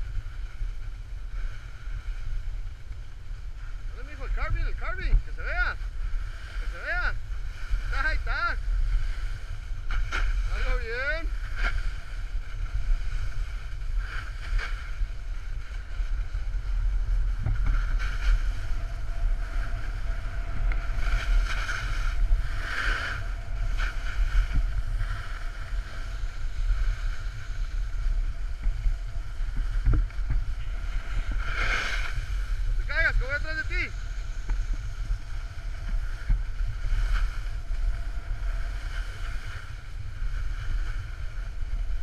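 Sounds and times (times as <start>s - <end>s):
snowboard edges scraping snow: 0.0s - 42.0s
wind rumbling on microphone: 0.0s - 42.0s.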